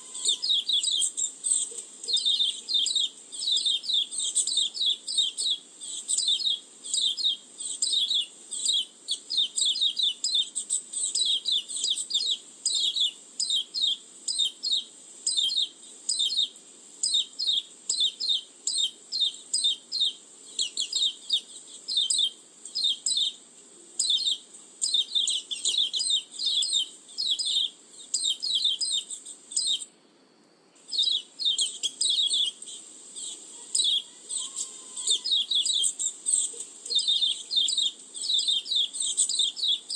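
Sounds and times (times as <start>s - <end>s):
high sharp bird chirps: 0.0s - 23.4s, 24.0s - 29.9s, 30.9s - 39.9s.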